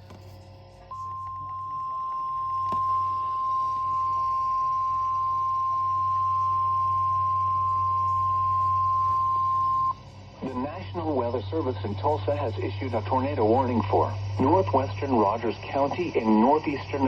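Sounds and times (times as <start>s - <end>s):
low hum: 0.0s - 17.0s
steady alarm tone: 0.0s - 17.0s.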